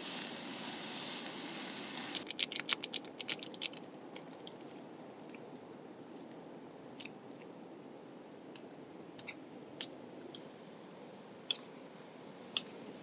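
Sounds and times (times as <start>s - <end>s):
low rushing background noise: 0.0s - 13.0s.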